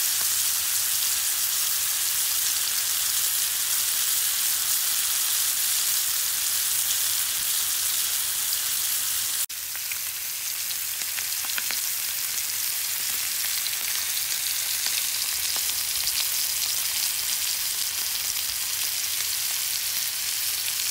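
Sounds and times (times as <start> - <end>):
steaks sizzling in a skillet: 0.0 - 20.9.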